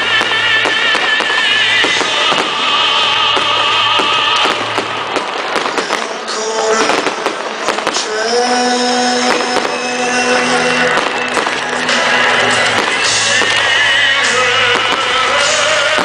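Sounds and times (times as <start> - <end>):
fireworks bursting and crackling: 0.0 - 16.0
music playing: 0.0 - 16.0.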